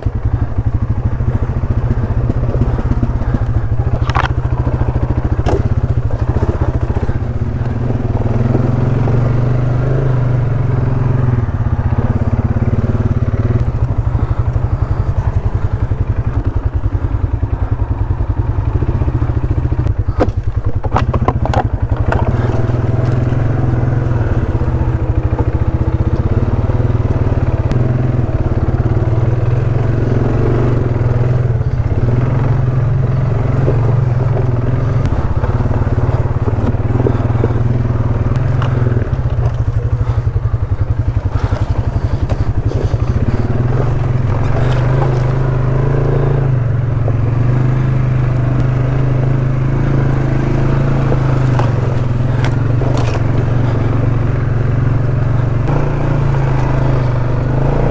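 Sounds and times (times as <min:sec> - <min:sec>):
knocks and clatter: 0:00.0 - 0:10.1, 0:18.6 - 0:57.9
atv engine running: 0:00.0 - 0:57.9.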